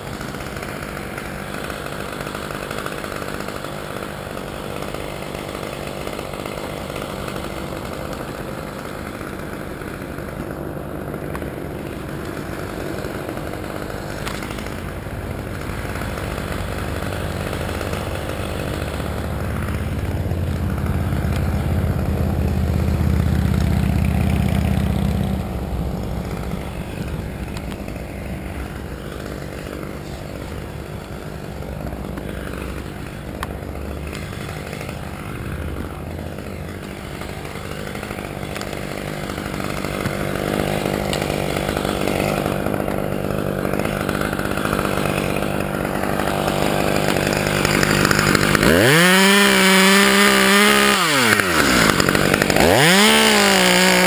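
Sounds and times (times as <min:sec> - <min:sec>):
chainsaw idling: 0:00.0 - 0:54.0.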